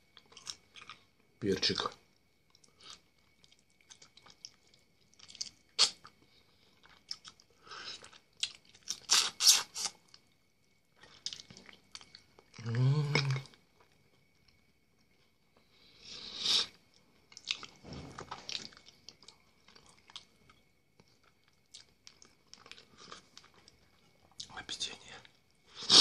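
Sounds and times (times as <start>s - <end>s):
person crunching and chewing food: 0.0s - 24.6s.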